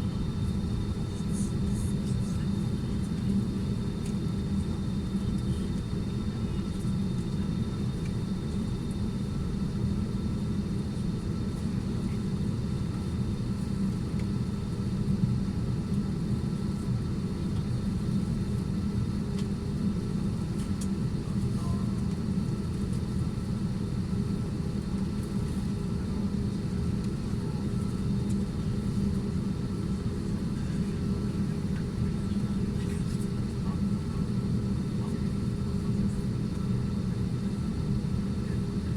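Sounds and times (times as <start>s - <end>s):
airliner cabin rumble and hum: 0.0s - 38.9s.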